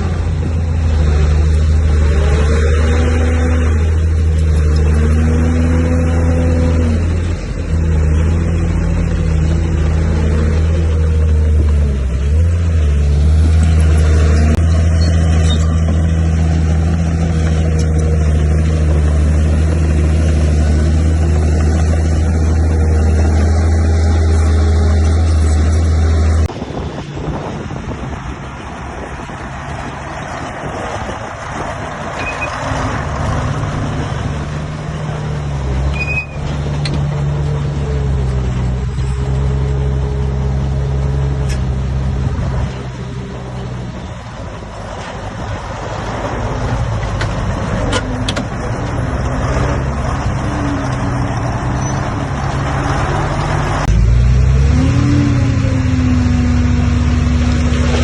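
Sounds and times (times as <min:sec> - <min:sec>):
heavy diesel engines under load: 0:00.0 - 0:58.0.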